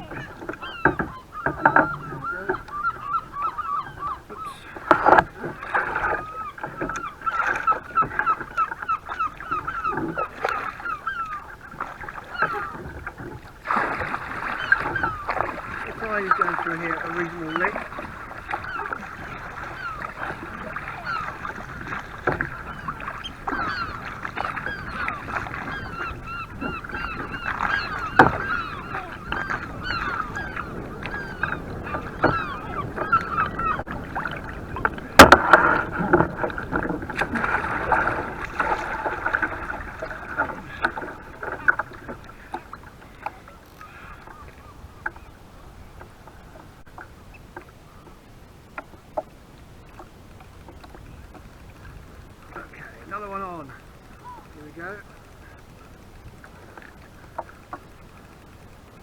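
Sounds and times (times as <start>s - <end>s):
gulls calling: 0.0s - 58.7s.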